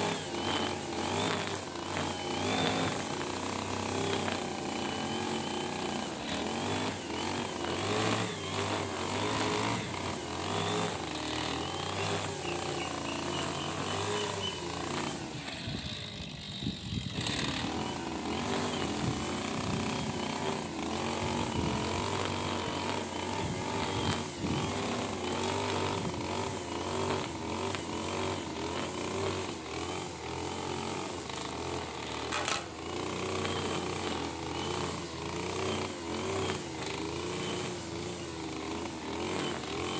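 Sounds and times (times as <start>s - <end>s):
brush cutter engine running: 0.0s - 39.9s
cutting line trimming grass: 0.0s - 39.9s.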